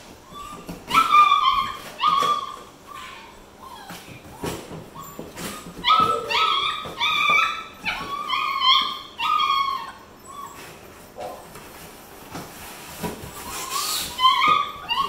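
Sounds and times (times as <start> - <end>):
puppy whining cries: 0.2 - 11.4, 13.3 - 15.0.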